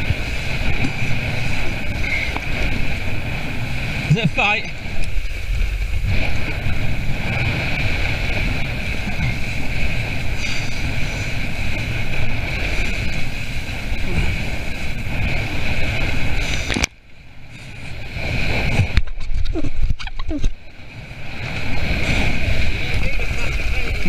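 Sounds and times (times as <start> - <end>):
water rushing past hull: 0.0 - 24.0
wind buffeting microphone: 0.0 - 24.0.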